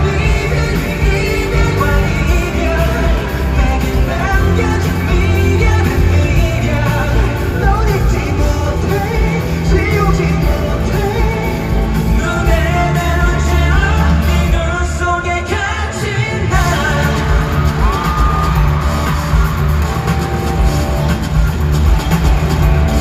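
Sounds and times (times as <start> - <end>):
man singing lead vocal: 0.0 - 19.4
pop-rock band playing: 0.0 - 23.0.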